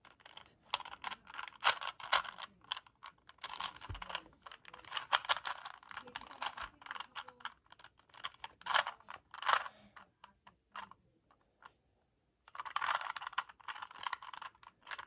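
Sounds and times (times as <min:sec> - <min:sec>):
plastic puzzle cube clicking: 0:00.0 - 0:11.0, 0:12.5 - 0:15.0.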